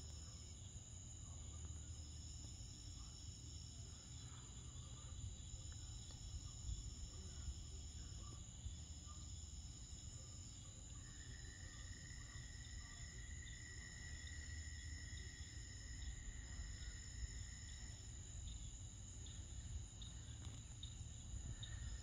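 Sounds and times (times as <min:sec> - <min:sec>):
crickets trilling: 0:00.0 - 0:22.0
lower insect trill: 0:00.0 - 0:22.0.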